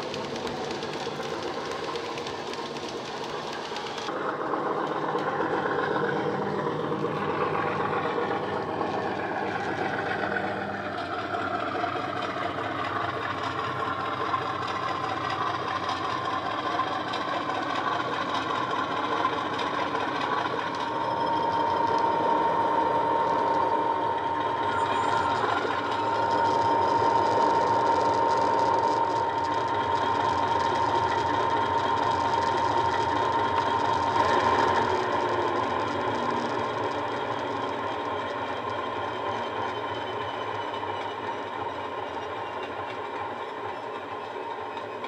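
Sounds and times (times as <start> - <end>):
model locomotive diesel engine sound: 0.0 - 45.0
steady high whine: 0.0 - 45.0.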